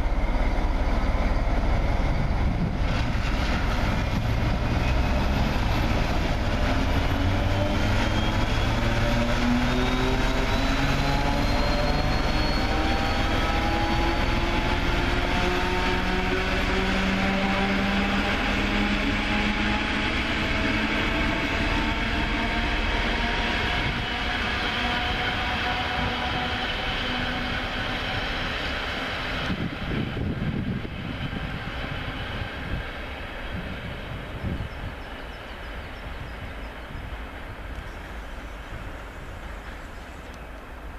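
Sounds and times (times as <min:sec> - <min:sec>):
locomotive engine hum: 0:00.0 - 0:40.9
train wheels rumbling on rails: 0:00.0 - 0:40.9.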